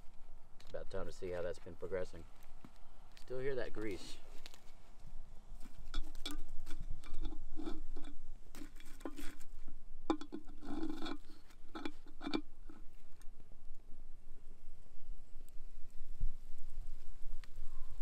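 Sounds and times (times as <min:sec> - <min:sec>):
embers and ash crunching: 0:00.0 - 0:18.0.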